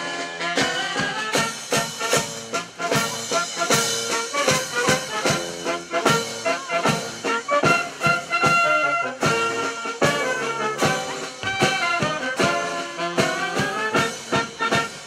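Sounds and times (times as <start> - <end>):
trumpets and trombones: 0.0 - 15.0
quick drum beat: 0.6 - 15.0.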